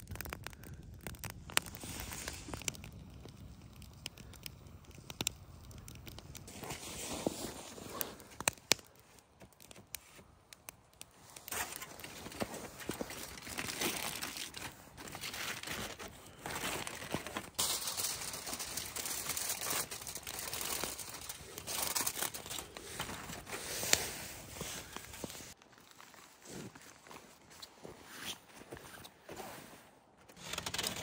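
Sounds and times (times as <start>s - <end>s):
aluminium foil crinkling: 0.0s - 10.3s, 11.0s - 26.2s, 30.3s - 31.0s.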